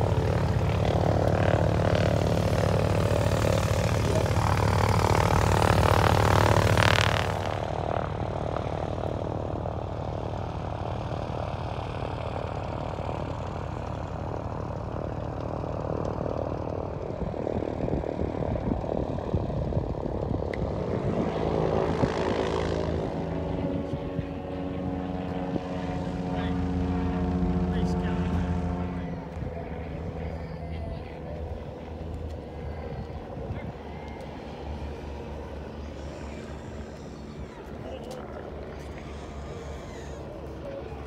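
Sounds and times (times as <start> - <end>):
propeller airplane engine drone: 0.0 - 41.0.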